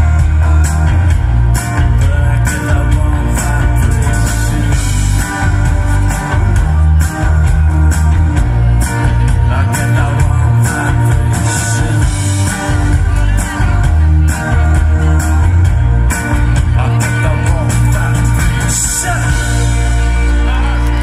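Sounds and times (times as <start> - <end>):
drum kit with cymbal hits: 0.0 - 21.0
electric guitars: 0.0 - 21.0
heavy bass line: 0.0 - 21.0.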